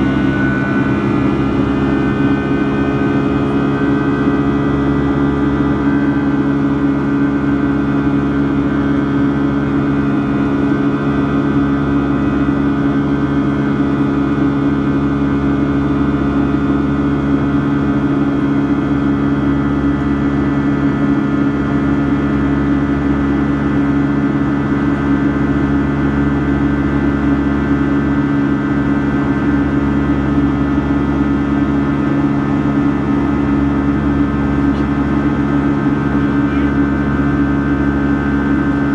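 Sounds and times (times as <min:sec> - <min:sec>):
jet engine cabin drone: 0:00.0 - 0:38.9.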